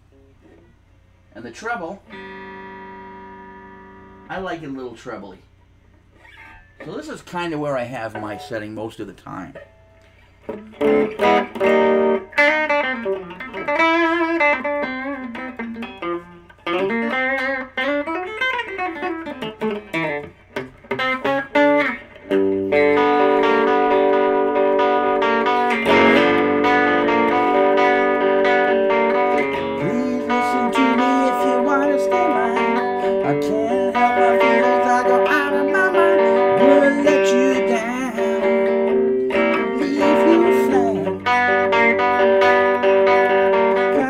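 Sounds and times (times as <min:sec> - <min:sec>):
electric guitar through an amp: 0:02.1 - 0:04.6, 0:09.6 - 0:44.0.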